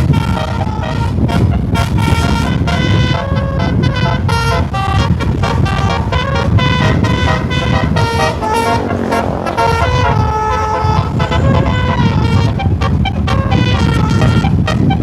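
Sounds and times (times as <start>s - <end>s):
low bus engine noise: 0.0s - 15.0s
multi-trumpet bus horn melody: 0.0s - 15.0s.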